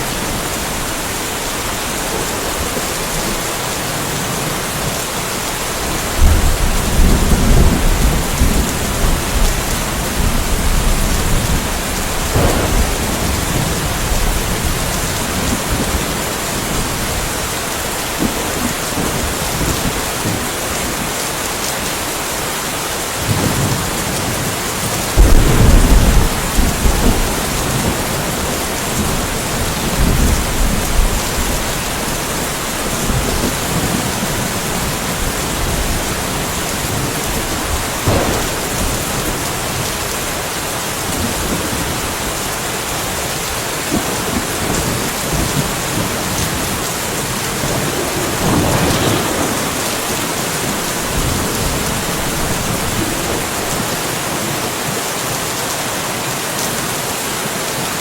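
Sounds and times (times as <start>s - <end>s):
thunder rumbling: 0.0s - 21.1s, 23.2s - 42.4s, 43.0s - 54.3s
rain falling: 0.0s - 58.0s.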